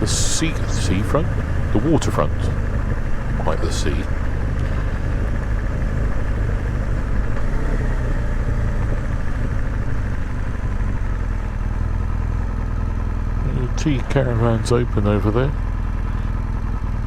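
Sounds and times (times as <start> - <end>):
motorcycle engine at low revs: 0.0 - 17.0.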